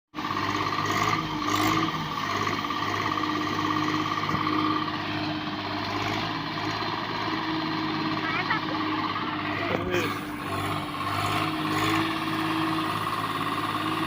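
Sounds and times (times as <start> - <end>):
tractor diesel engine running: 0.1 - 14.0.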